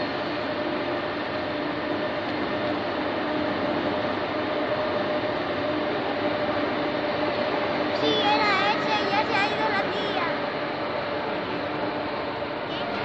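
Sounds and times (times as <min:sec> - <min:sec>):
hum of high-speed trains: 0:00.0 - 0:13.0
steady tones: 0:00.0 - 0:13.0.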